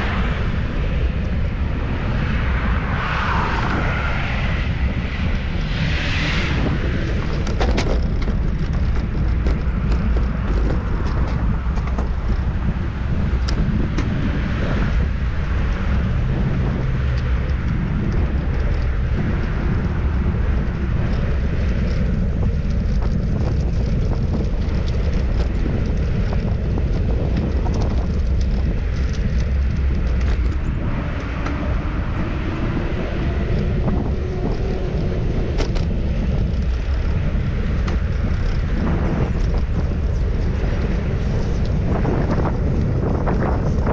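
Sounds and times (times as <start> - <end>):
passing traffic: 0.0 - 43.9
road noise: 0.0 - 43.9
wind rumble on microphone: 0.0 - 43.9.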